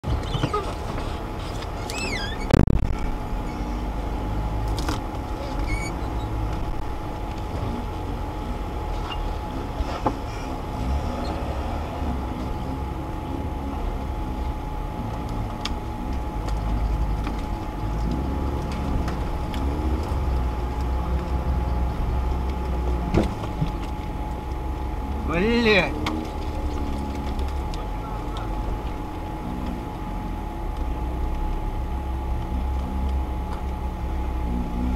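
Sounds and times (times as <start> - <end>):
engine idling from inside cabin: 0.0 - 34.9.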